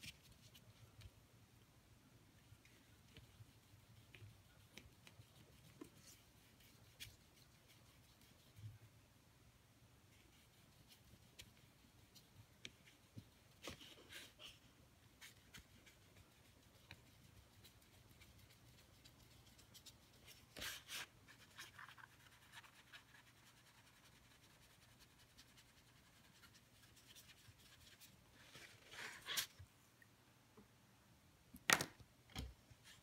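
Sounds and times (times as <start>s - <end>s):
brush rustling on paper: 0.0s - 1.2s, 2.4s - 9.0s, 10.0s - 29.7s.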